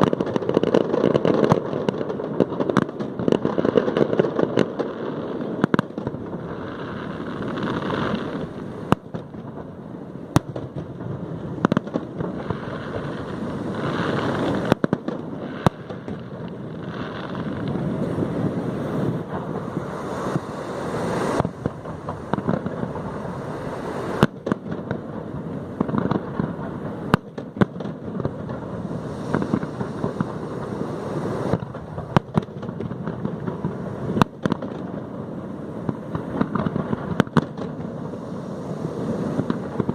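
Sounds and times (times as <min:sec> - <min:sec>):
fireworks crackling: 0:00.0 - 0:39.9
fireworks sharp bangs: 0:00.0 - 0:39.9.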